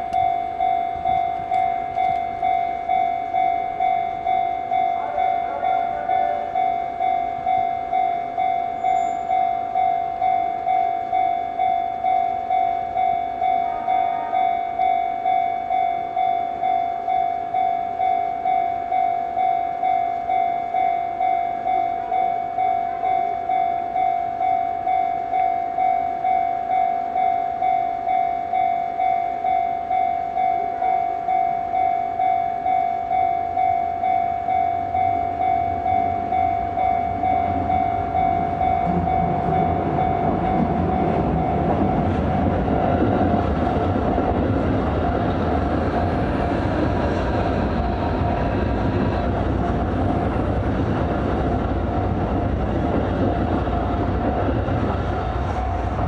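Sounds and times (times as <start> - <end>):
level crossing warning bell: 0.0 - 45.2
electric train rumble: 0.0 - 56.0.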